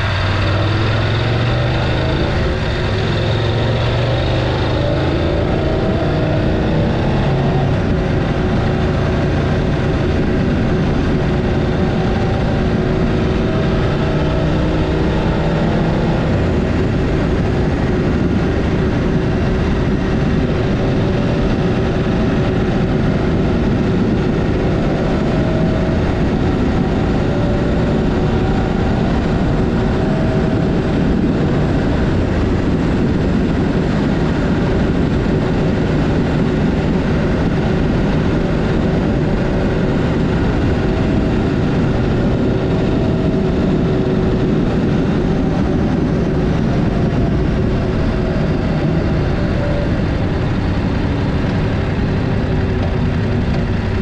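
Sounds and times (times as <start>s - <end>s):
motorbike engine hum: 0.0s - 54.0s
wind and road noise: 0.0s - 54.0s.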